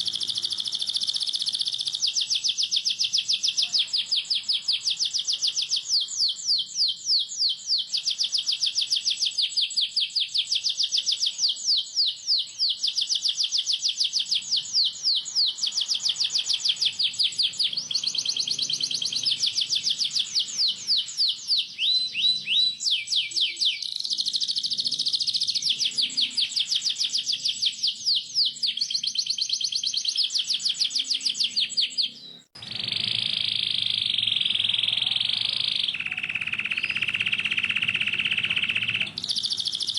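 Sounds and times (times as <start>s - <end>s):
canary chirping and trilling: 0.0s - 39.9s.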